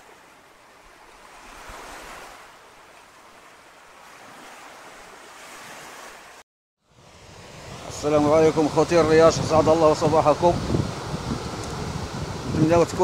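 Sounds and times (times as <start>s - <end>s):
surf washing on rocky shore: 0.0s - 13.0s.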